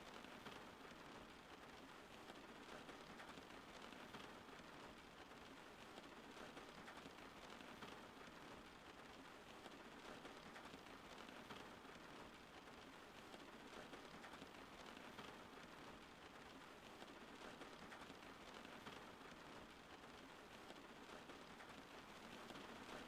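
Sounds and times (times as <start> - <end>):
faint steady rain: 0.0 - 23.0.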